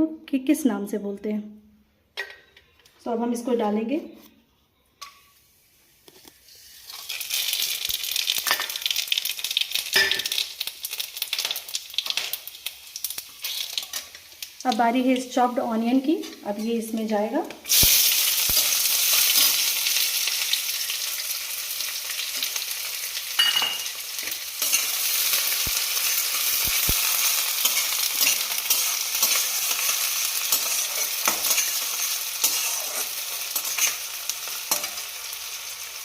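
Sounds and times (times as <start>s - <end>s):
onions sizzling in hot oil: 6.3s - 36.0s.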